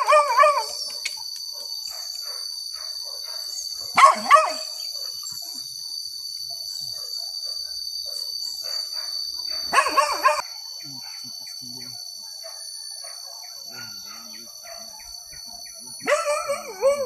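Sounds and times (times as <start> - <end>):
dogs barking: 0.0 - 1.0, 1.6 - 5.6, 6.6 - 11.4, 12.0 - 17.0
high-pitched insect drone: 0.0 - 17.0.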